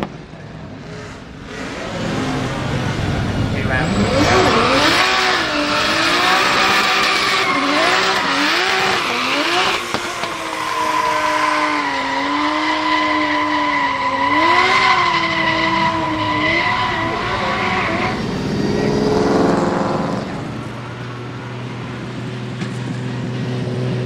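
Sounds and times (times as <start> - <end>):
car engine revving: 0.0 - 24.0
tyres squealing: 1.5 - 20.8.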